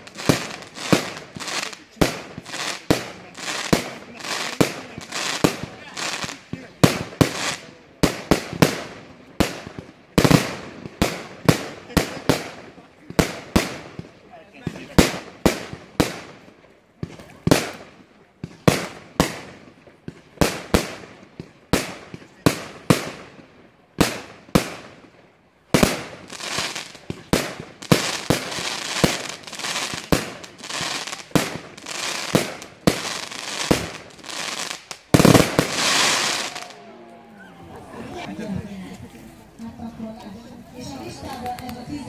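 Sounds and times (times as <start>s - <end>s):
fireworks bangs: 0.0s - 36.8s
fireworks crackling: 0.0s - 36.9s.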